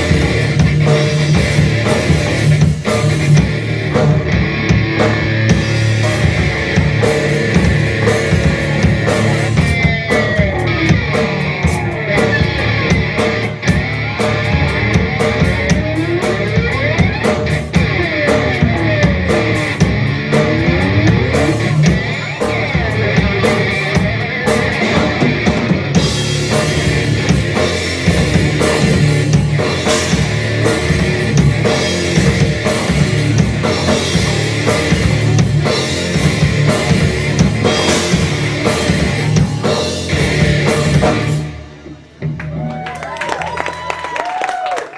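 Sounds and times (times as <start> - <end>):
distorted electric guitar: 0.0 - 43.9
bass guitar: 0.0 - 44.9
drum kit: 0.0 - 44.9.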